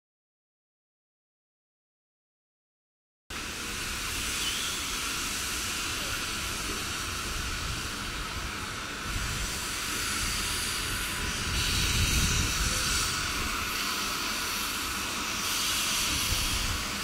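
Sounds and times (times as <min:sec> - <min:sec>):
hiss of steam: 0:03.3 - 0:17.0
low rumble of train: 0:03.3 - 0:17.0.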